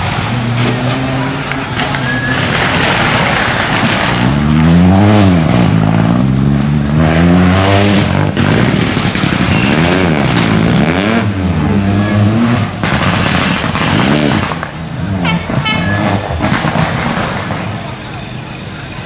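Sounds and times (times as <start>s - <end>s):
rally car engine revving: 0.0s - 18.0s
rough rushing noise: 0.0s - 18.3s.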